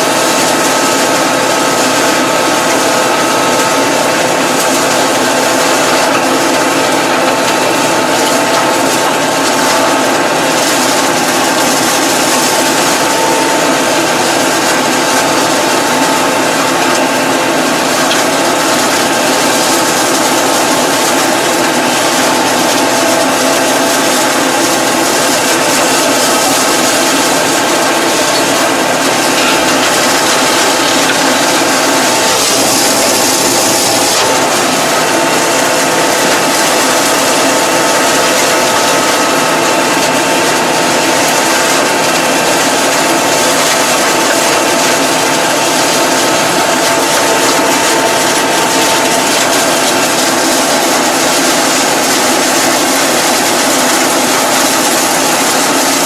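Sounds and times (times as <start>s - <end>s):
machine whine: 0.0s - 56.0s
mower cutting grass: 0.0s - 56.0s
tractor engine running under load: 0.0s - 56.0s.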